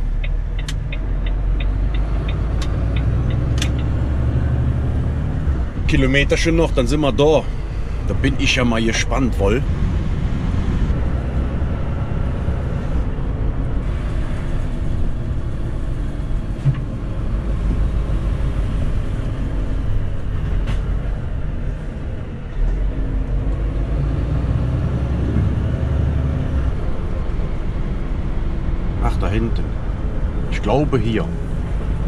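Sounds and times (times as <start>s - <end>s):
lorry engine drone from cab: 0.0s - 32.0s.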